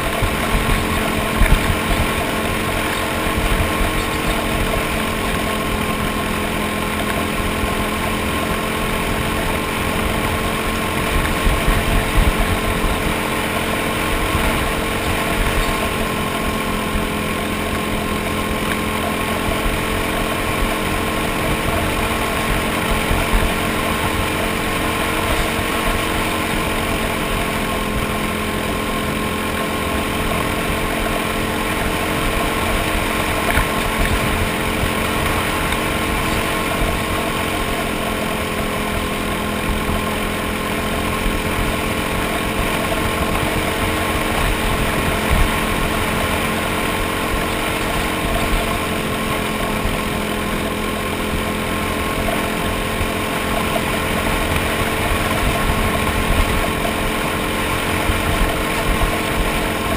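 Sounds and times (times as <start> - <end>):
racing kart engine running: 0.0 - 59.9
wind and track noise: 0.0 - 59.9.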